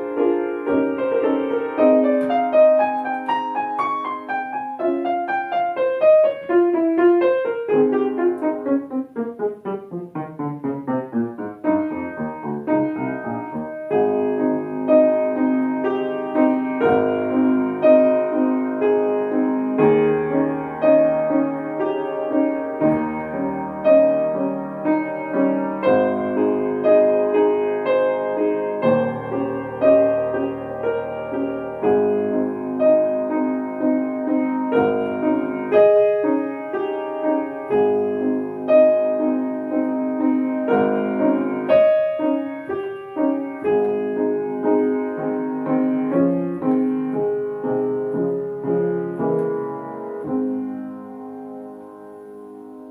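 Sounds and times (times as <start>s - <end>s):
solo piano: 0.0s - 52.9s.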